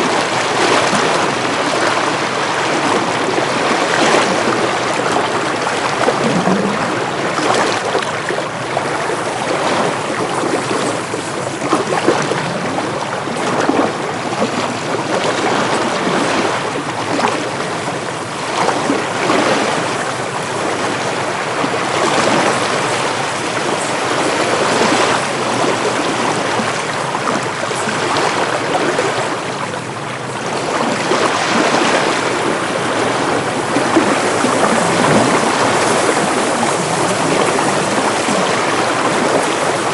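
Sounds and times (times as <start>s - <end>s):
waves washing in: 0.0s - 39.9s
wind: 0.0s - 39.9s.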